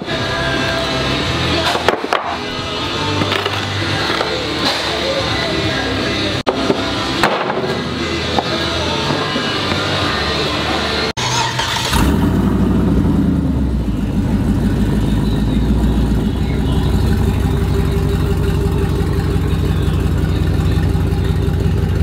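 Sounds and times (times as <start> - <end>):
truck engine running loud: 0.0 - 22.0.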